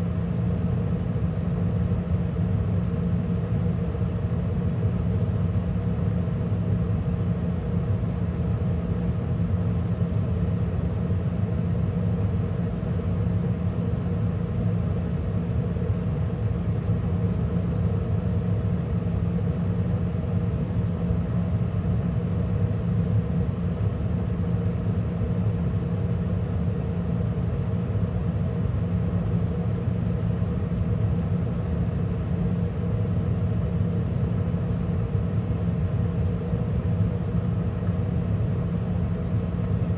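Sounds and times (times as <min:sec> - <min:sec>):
gas furnace running: 0:00.0 - 0:39.9.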